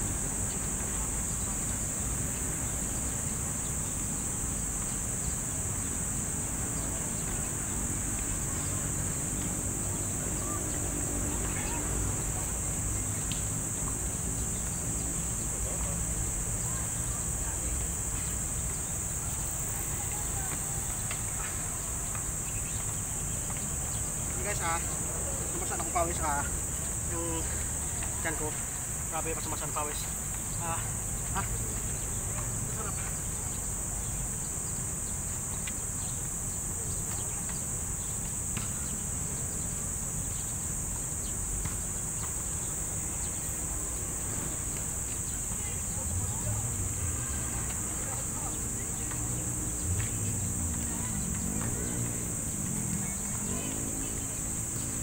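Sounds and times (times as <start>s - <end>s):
high-pitched insect drone: 0.0s - 55.0s
low traffic rumble: 0.0s - 55.0s
wind: 0.0s - 55.0s.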